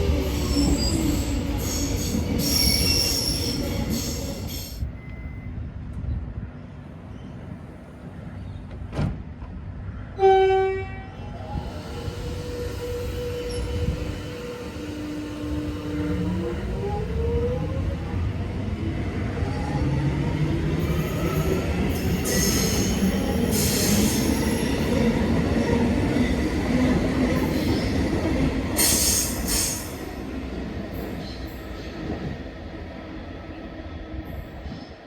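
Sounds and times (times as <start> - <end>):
train rumble: 0.0 - 10.2, 11.1 - 35.0.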